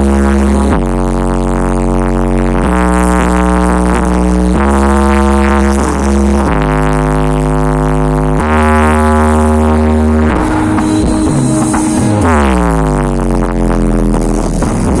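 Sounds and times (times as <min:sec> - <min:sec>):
loud music with deep bass: 0:00.0 - 0:15.0.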